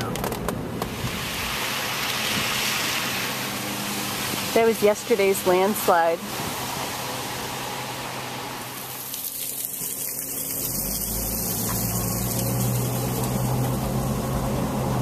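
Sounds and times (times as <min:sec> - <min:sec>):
low engine hum: 0:00.0 - 0:15.0
tyres hissing on wet road: 0:00.8 - 0:15.0.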